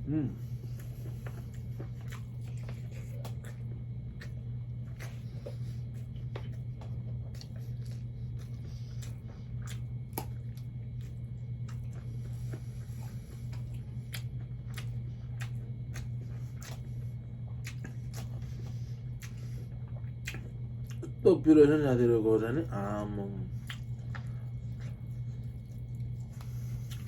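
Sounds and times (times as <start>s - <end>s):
low hum: 0.0s - 27.0s
mouth chewing food: 0.3s - 21.2s, 22.6s - 27.0s.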